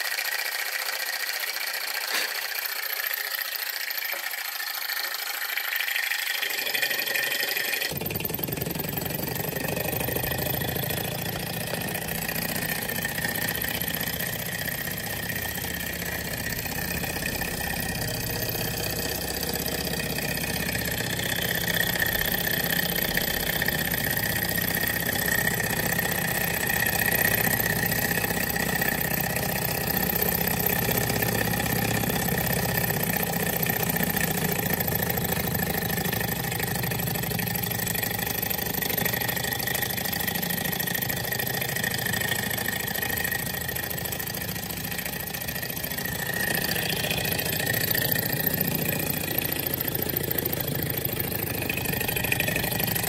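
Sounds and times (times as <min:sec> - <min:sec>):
small engine mechanical clatter: 0:00.0 - 0:53.0.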